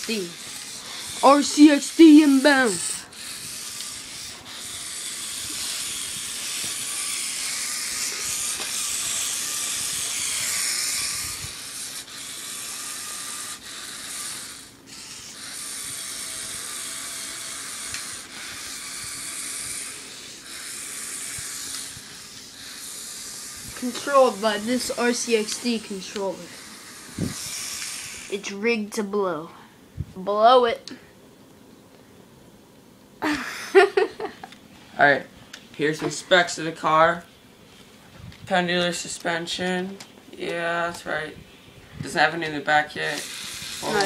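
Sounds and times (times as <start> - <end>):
electric motors and gears whirring: 0.0 - 29.4, 35.8 - 44.0.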